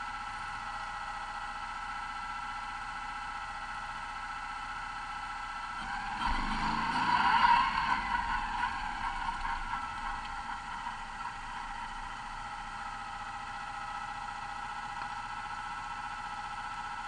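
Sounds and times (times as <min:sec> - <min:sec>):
buggy engine idling and revving: 0:00.0 - 0:17.0.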